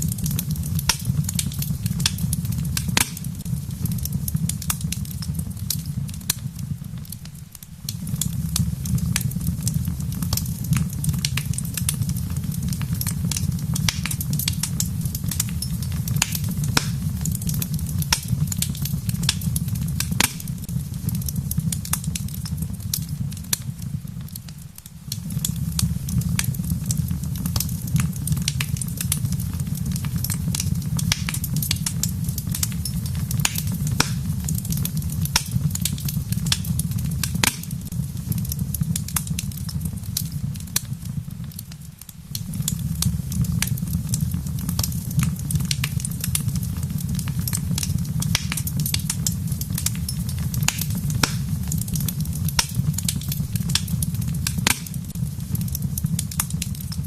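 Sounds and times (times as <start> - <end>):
rain pattering: 0.0 - 57.0
wood fire crackling: 0.0 - 57.0.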